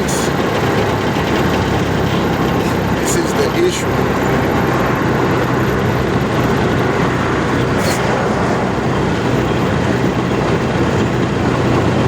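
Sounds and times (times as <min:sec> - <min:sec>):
highway traffic: 0:00.0 - 0:12.0.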